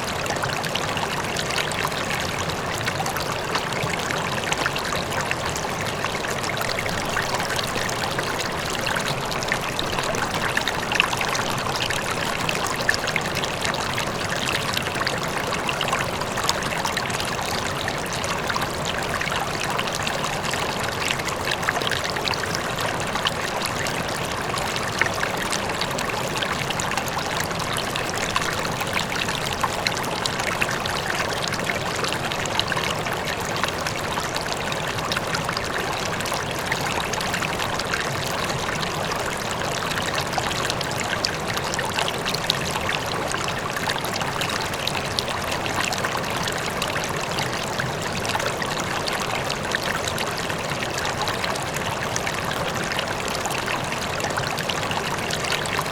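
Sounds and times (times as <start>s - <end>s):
river water flowing over rocks: 0.0s - 55.9s.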